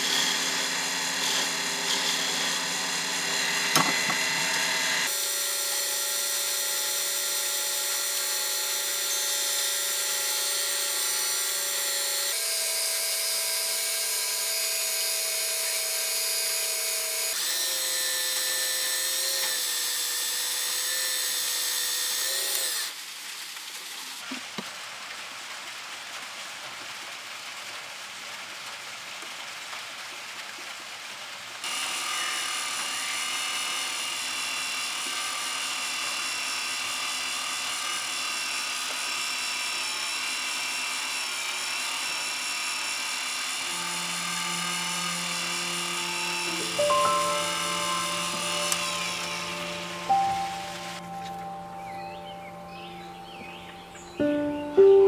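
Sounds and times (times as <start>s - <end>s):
wood lathe motor whine: 0.0s - 23.0s, 31.7s - 53.8s
hiss of wood being cut: 0.0s - 24.6s, 31.6s - 51.1s.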